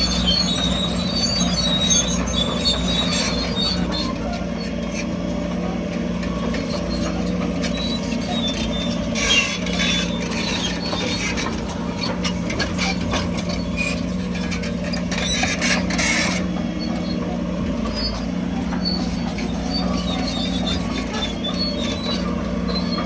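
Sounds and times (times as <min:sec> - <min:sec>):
bulldozer diesel engine running: 0:00.0 - 0:23.0
steel tracks squealing: 0:00.0 - 0:23.0.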